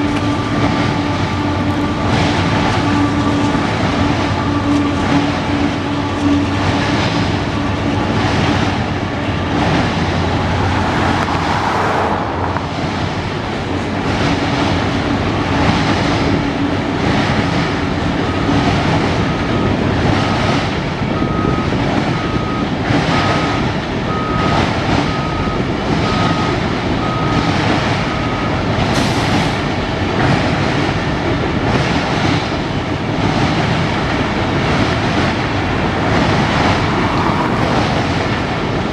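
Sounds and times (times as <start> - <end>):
freight train wheels rumbling: 0.0 - 38.9
wheels clacking over rail joints: 0.0 - 38.9.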